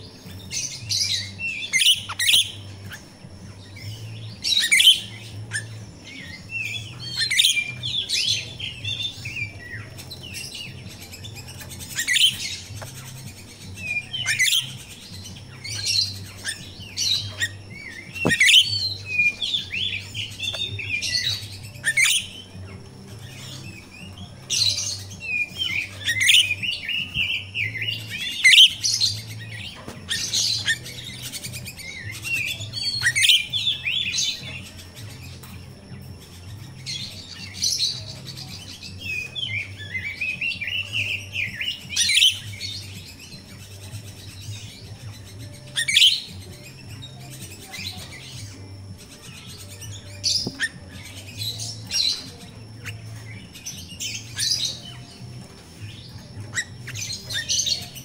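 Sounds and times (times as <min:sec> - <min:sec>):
starling chirping and chattering: 0:00.0 - 0:58.0.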